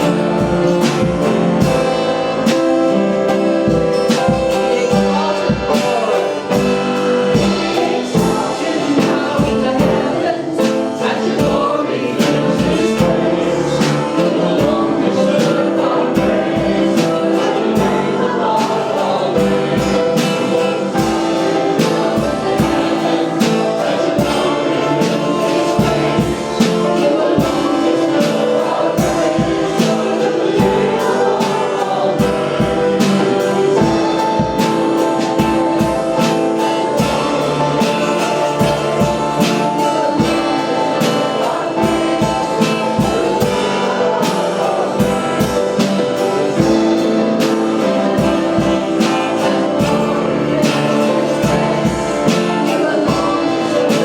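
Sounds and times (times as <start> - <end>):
steady drum beat: 0.0 - 54.0
voices singing over a band: 0.0 - 54.0.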